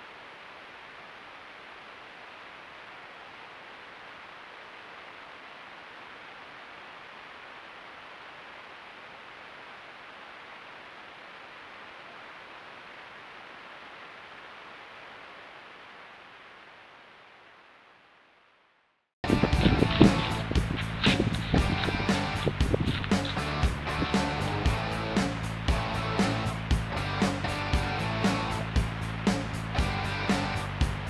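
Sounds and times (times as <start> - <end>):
steady microphone hiss: 0.0 - 31.0.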